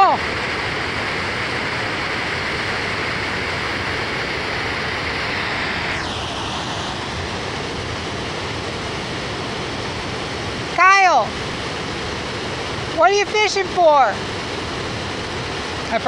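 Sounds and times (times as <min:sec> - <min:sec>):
water rushing over a dam: 0:00.0 - 0:16.0.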